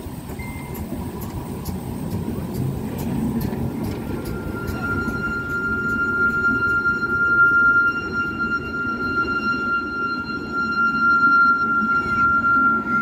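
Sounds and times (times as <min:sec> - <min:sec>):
steady high-pitched tone: 0:00.0 - 0:13.0.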